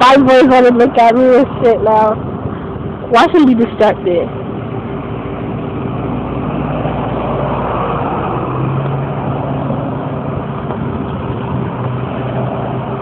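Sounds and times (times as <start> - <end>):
car engines running: 0.0 - 13.0
traffic noise: 0.0 - 13.0.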